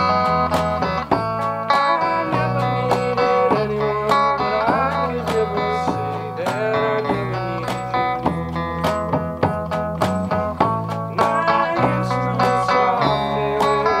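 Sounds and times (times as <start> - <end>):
banjo and guitar strumming: 0.0 - 14.0
lead guitar melody: 0.0 - 14.0.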